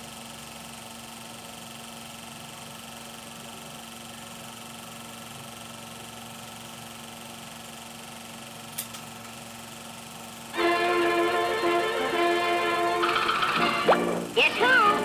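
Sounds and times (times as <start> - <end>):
film projector humming: 0.0 - 15.0.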